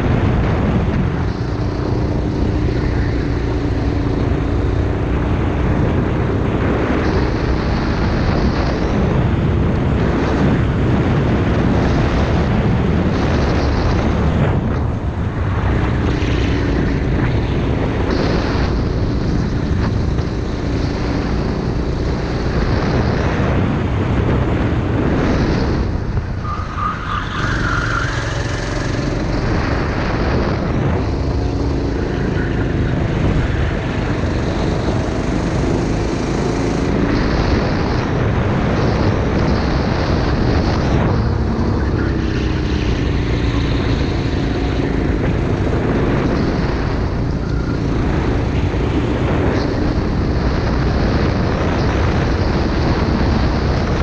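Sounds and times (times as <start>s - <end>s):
go-kart engine at racing speed: 0.0s - 54.0s.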